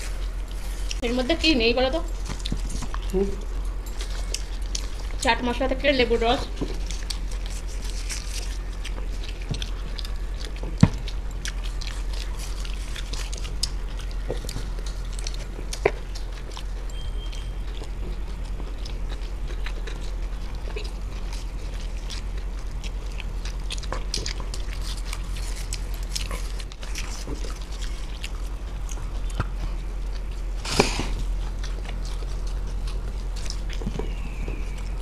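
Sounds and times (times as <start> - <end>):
people chewing food: 0.0 - 35.0
steady low hum: 0.0 - 35.0.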